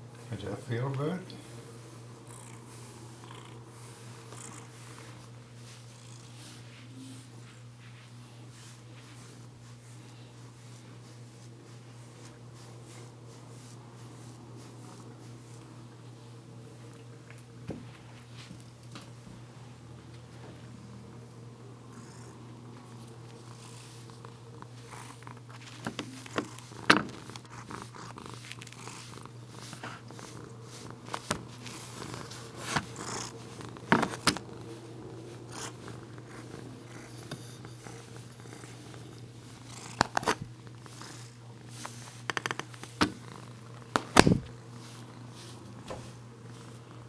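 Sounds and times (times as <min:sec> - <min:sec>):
cat purring: 0:01.8 - 0:16.0, 0:20.3 - 0:47.0.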